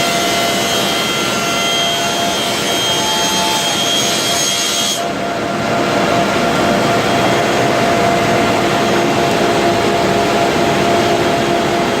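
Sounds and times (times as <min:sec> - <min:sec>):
machine running: 0:00.0 - 0:12.0
steady machine whine: 0:00.0 - 0:12.0.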